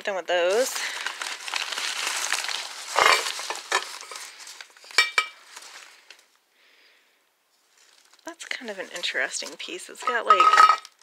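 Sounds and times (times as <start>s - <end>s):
packing paper rustling: 0.4s - 6.4s, 7.6s - 11.0s.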